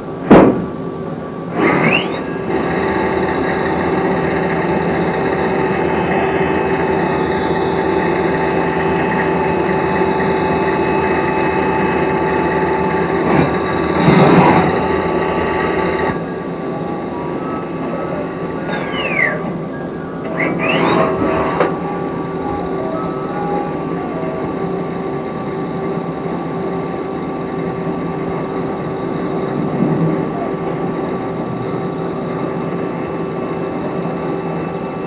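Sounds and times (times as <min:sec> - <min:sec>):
loud burst of noise: 0:00.2 - 0:35.0
machine humming: 0:01.0 - 0:35.0.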